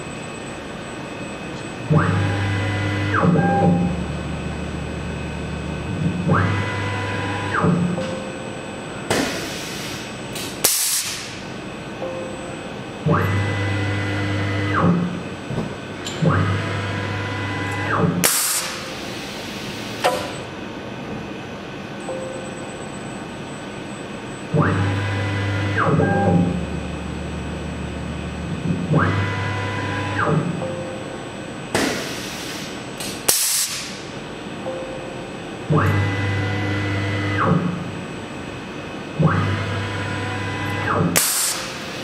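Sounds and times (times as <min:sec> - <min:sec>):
mill axis drives whining: 0:00.0 - 0:10.6, 0:11.2 - 0:33.2, 0:34.0 - 0:42.0.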